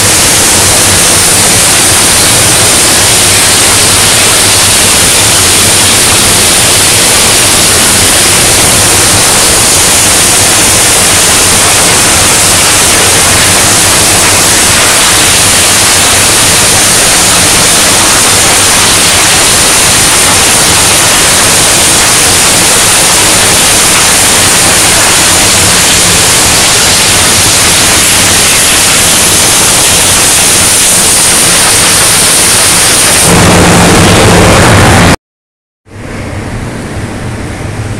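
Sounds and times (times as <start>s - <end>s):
loud industrial hiss: 0.0s - 35.2s.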